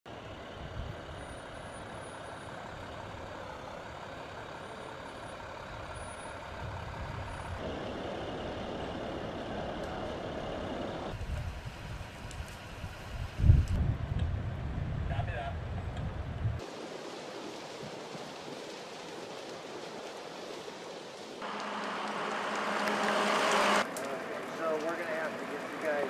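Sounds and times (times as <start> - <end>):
fire truck engines running: 0.1 - 13.8, 16.6 - 26.0
wildfire rushing: 0.1 - 26.0.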